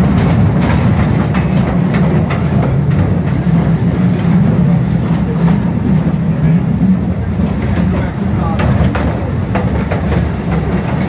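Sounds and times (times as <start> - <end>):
rail clicks: 0.0 - 11.0
train cars rumbling: 0.0 - 11.0.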